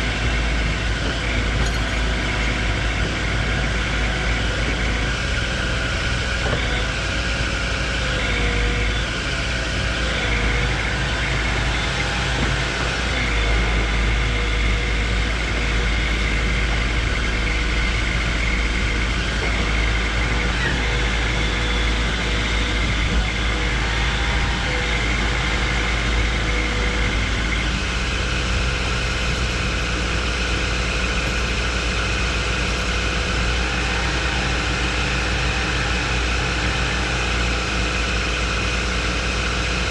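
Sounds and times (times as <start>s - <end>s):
excavator diesel engines running: 0.0s - 39.9s
thin steady whine: 0.0s - 39.9s.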